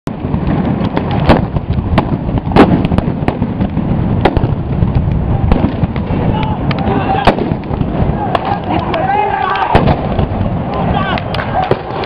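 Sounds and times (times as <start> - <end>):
continuous low rumble: 0.1 - 12.0
explosive bangs: 0.1 - 12.0.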